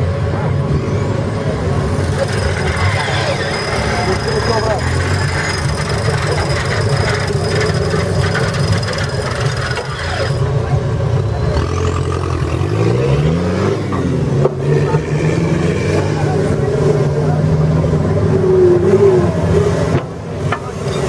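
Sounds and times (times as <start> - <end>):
off-road vehicle engine labouring: 0.0 - 21.0.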